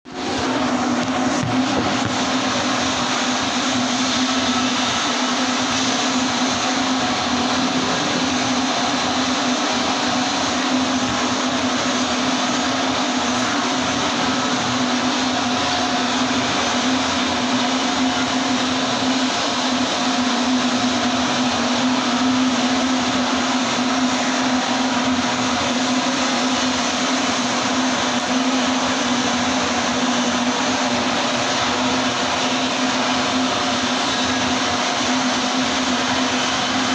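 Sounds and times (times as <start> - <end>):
welding arc buzzing hiss: 0.1 - 36.9.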